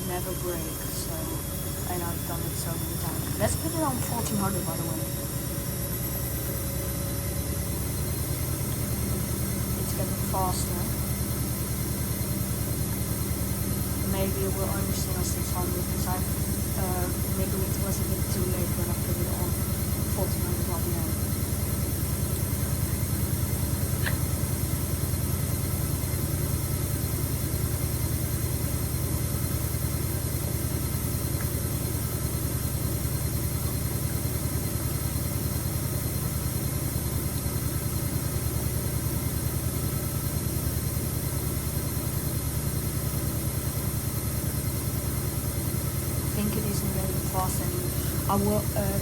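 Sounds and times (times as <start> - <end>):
washing machine spinning: 0.0 - 49.0.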